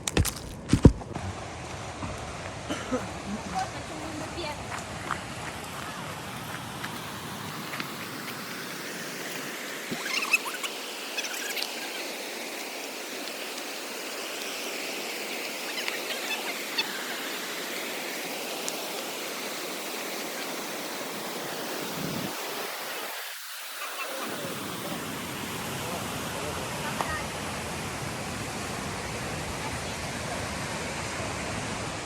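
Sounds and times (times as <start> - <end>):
flowing water: 0.0 - 32.0.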